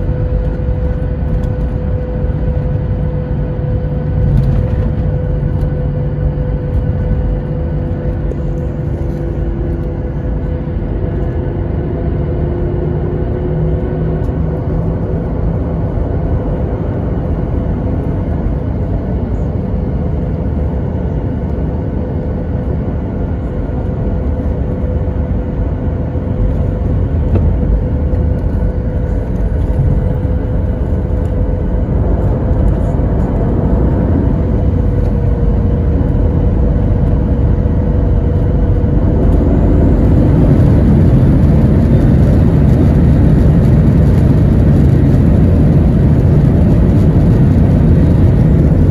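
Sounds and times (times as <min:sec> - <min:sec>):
jet engine rumble and whine: 0:00.0 - 0:48.9.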